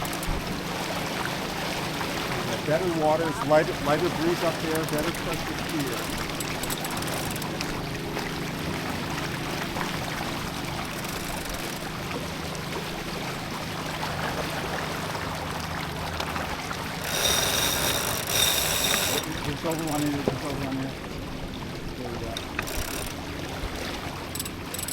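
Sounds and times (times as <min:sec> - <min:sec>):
water rushing along boat hull: 0:00.0 - 0:24.9.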